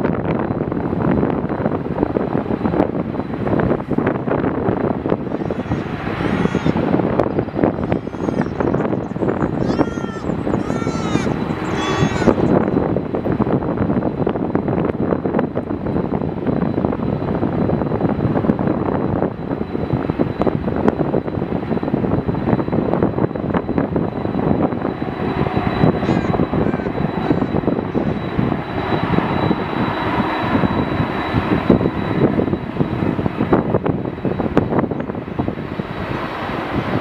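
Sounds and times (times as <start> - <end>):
jet engines running: 0.0 - 37.0.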